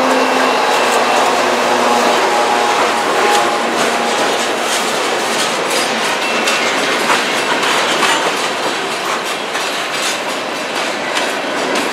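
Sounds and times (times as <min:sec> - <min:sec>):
train cars rolling and rattling: 0:00.0 - 0:11.9
wheels clicking over rail joints: 0:00.0 - 0:11.9.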